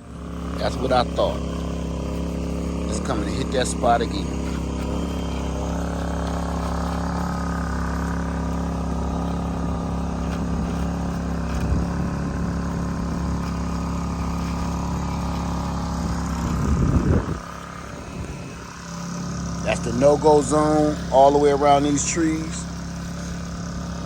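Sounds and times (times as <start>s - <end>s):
small engine drone: 0.0s - 24.0s.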